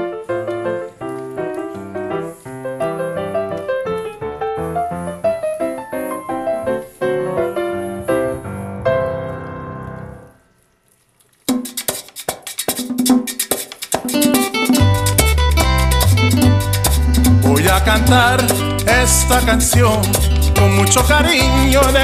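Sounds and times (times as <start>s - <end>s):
piano music: 0.0s - 10.5s, 14.2s - 22.0s.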